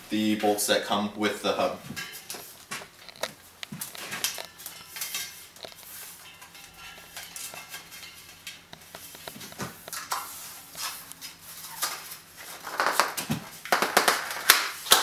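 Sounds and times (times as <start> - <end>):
bicycle wheel clicking and rattling: 2.0 - 15.0.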